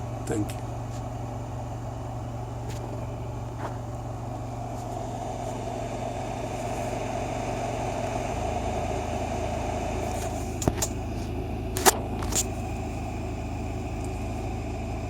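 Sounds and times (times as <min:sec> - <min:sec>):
fridge fan humming: 0:00.0 - 0:15.0.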